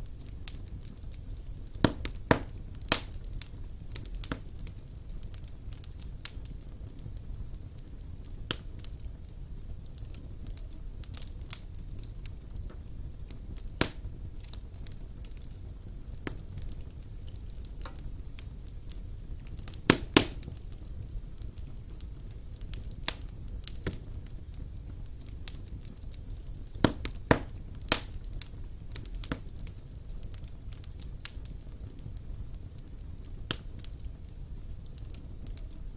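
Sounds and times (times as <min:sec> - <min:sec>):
burning logs crackling: 0:00.0 - 0:35.9
flames rumbling: 0:00.0 - 0:35.9.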